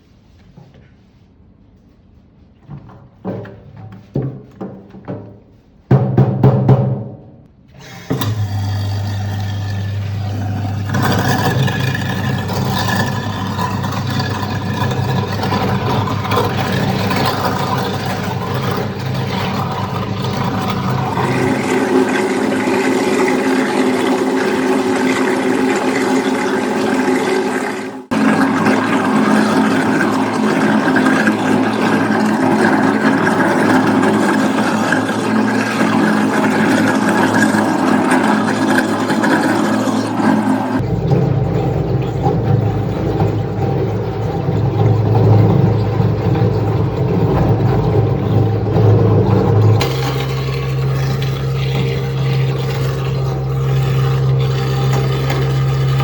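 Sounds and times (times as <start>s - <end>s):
garbage disposal grinding: 7.7s - 56.0s.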